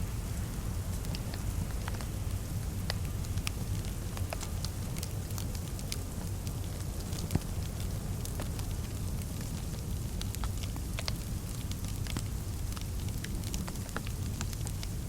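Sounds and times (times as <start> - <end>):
wood fire crackling: 0.1 - 15.0.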